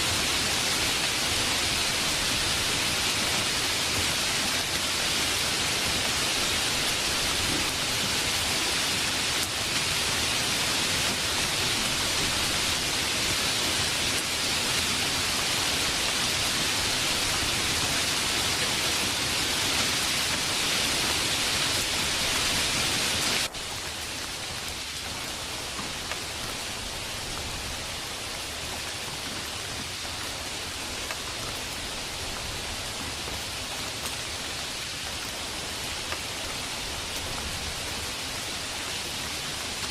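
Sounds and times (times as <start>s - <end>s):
heavy rainfall hiss: 0.0s - 39.9s.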